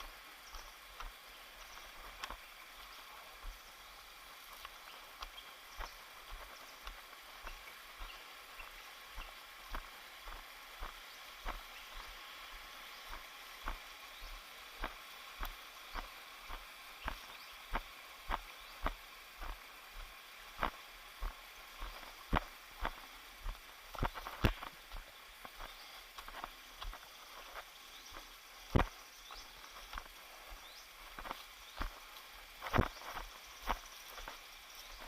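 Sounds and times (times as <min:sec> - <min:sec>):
background hiss: 0:00.0 - 0:35.0
footsteps walking: 0:00.0 - 0:35.0.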